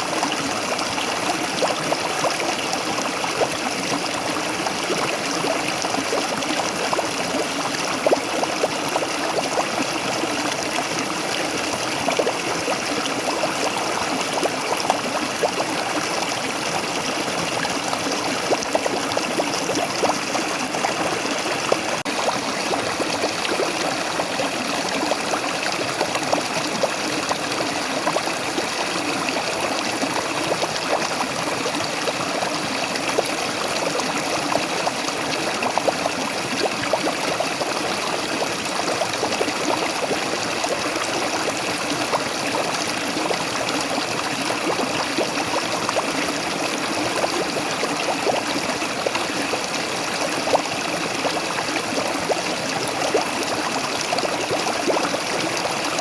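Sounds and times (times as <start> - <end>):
waterfall pouring and splashing: 0.0 - 56.0.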